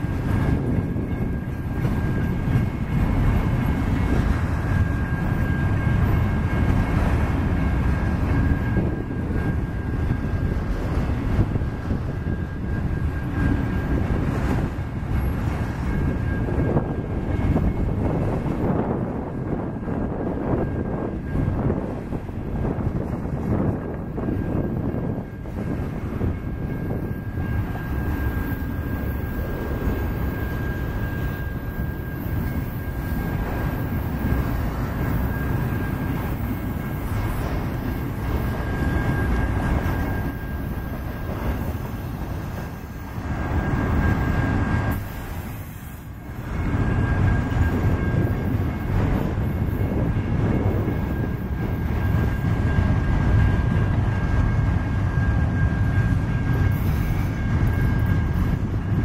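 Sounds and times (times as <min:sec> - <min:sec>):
freight train wheels rumbling on rail: 0:00.0 - 0:59.0.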